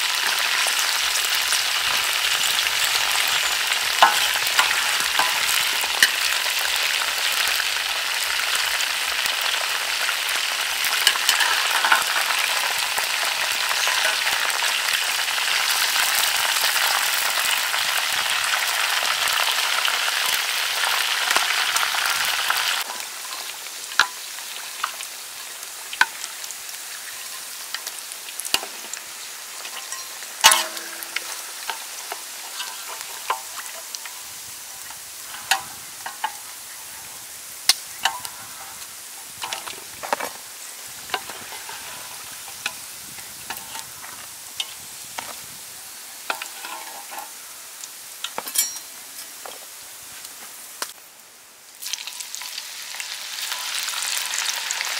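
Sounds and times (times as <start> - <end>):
hot oil sizzling: 0.0 - 54.9
metal spatula scraping wok: 0.2 - 27.9, 29.6 - 37.3, 38.0 - 45.5, 46.2 - 47.5, 48.2 - 49.4.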